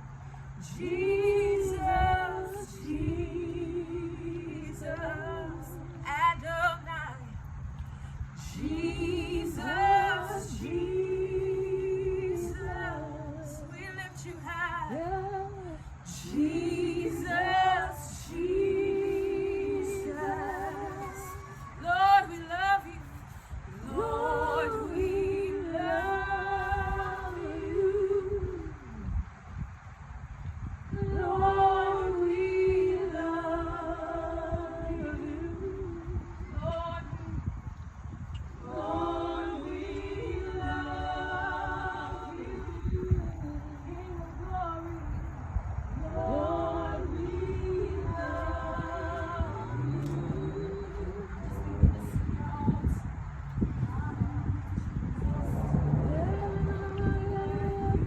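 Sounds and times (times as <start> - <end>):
low room rumble: 0.0 - 58.0
steady low hum: 0.0 - 58.0
woman singing worship song: 0.0 - 58.0.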